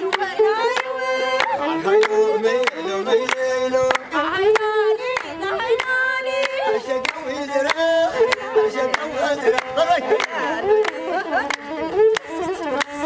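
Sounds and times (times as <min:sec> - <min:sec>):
bowed fiddle held tone: 0:00.0 - 0:13.0
rhythmic hand clapping: 0:00.0 - 0:13.0.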